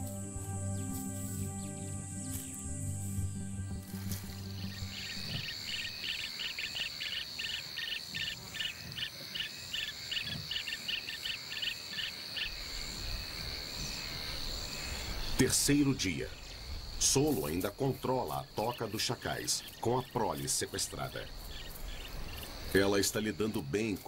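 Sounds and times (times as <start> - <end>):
insects droning: 0.0 - 24.0
rapid insect chirps: 0.0 - 24.0.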